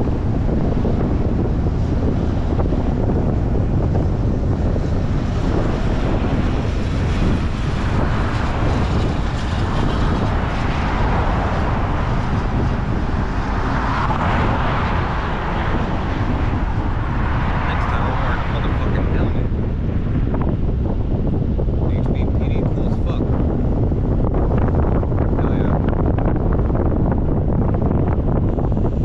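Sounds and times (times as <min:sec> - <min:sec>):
rushing noise: 0:00.0 - 0:29.0
wind rumble on microphone: 0:00.0 - 0:29.0.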